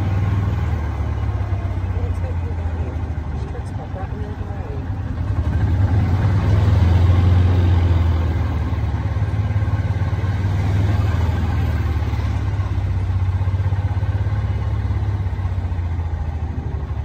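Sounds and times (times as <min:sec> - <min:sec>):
golf cart motor humming: 0:00.0 - 0:17.0.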